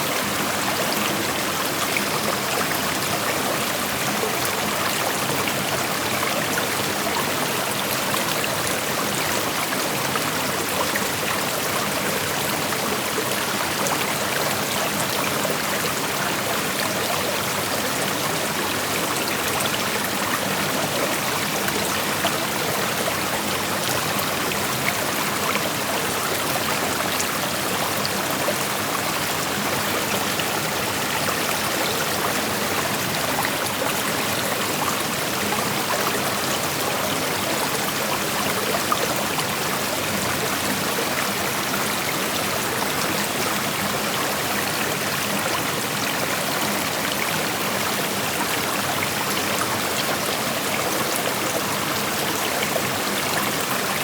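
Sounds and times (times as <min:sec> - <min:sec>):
creek flowing over rocks: 0:00.0 - 0:54.0.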